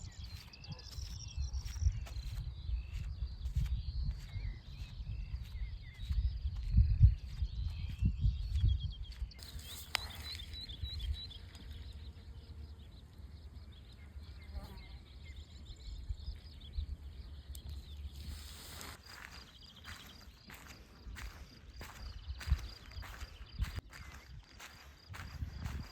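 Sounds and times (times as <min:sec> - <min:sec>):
songbirds chirping: 0:00.0 - 0:25.9.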